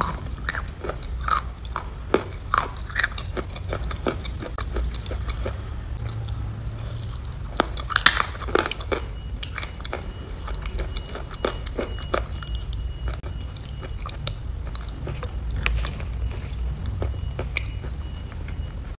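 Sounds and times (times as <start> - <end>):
wet chewing and mouth clicks: 0.0 - 18.8
low steady rumble: 0.0 - 19.0.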